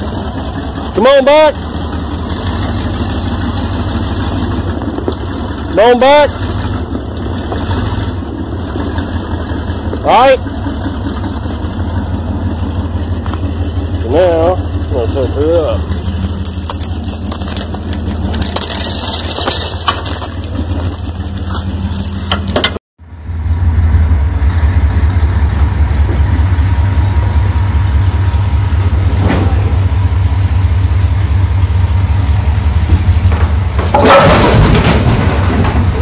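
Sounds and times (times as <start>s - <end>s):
engine idling with light knocks: 0.0s - 22.8s, 25.4s - 36.0s.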